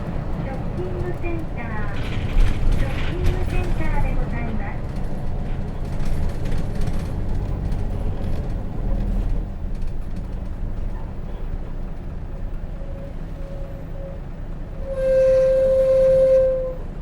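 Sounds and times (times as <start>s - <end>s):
bus diesel engine rumbling: 0.0s - 17.0s
road noise: 0.0s - 17.0s.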